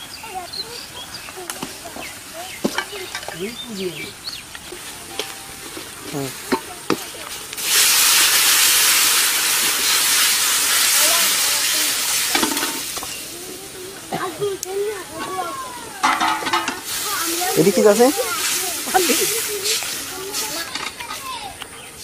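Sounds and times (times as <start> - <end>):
water sizzling in hot pan: 0.0 - 21.5.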